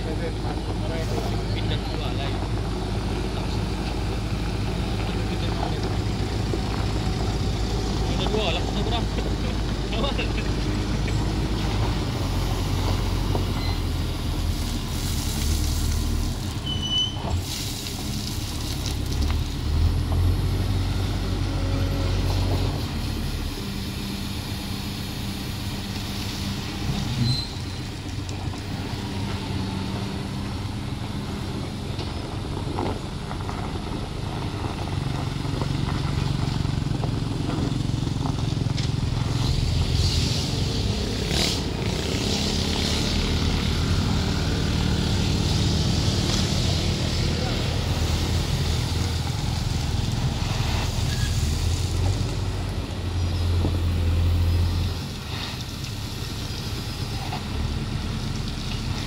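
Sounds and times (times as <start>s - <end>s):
truck diesel engine climbing: 0.0s - 59.0s.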